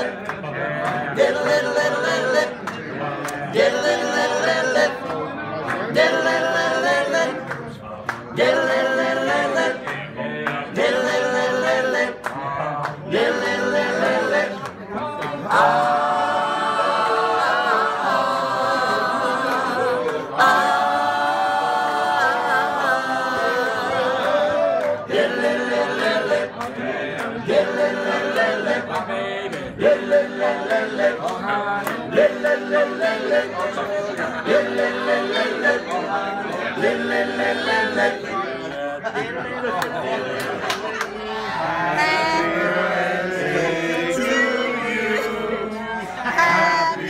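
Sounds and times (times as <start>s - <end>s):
group singing a cappella: 0.0s - 47.0s.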